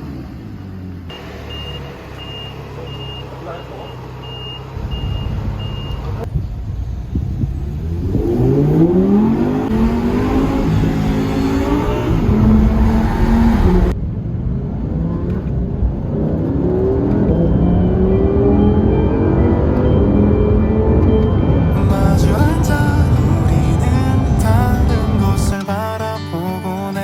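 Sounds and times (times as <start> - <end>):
sports car engine revving: 0.0 - 14.0, 14.6 - 25.6.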